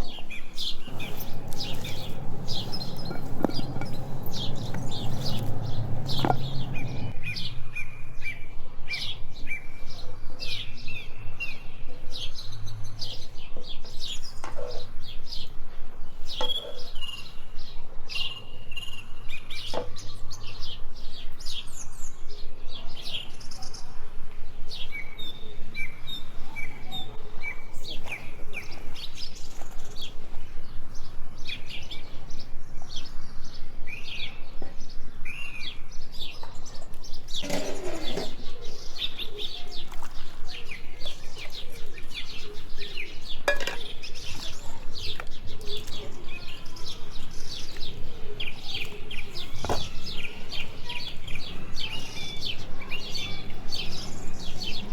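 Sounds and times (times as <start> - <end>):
small birds chirping: 0.0 - 15.6, 16.2 - 54.9.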